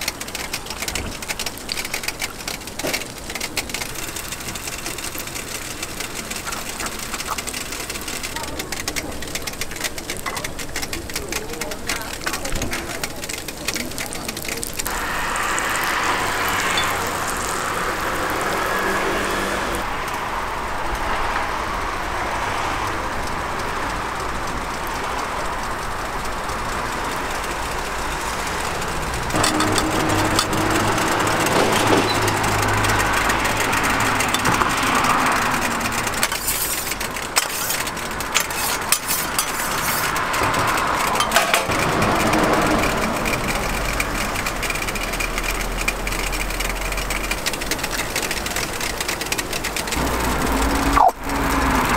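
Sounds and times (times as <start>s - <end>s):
traffic and city din: 0.0s - 51.9s.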